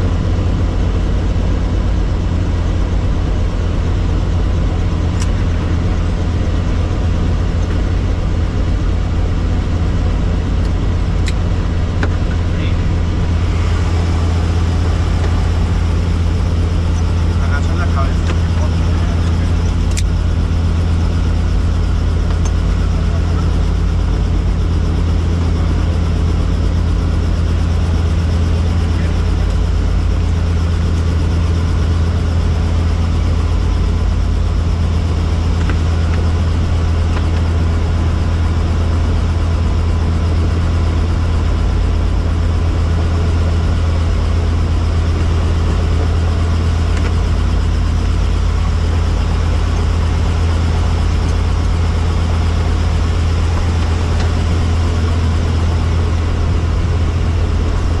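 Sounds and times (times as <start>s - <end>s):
helicopter running: 0.0s - 58.0s.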